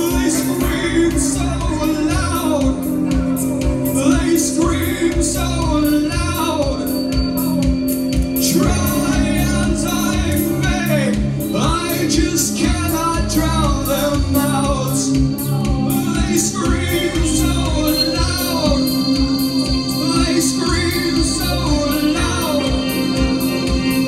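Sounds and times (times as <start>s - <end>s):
live rock band playing: 0.0s - 24.0s
person singing: 0.0s - 24.0s.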